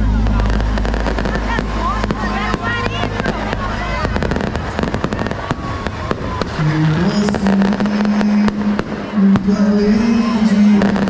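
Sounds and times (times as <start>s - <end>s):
fireworks crackling: 0.0s - 11.0s
steady low tone: 0.0s - 11.0s.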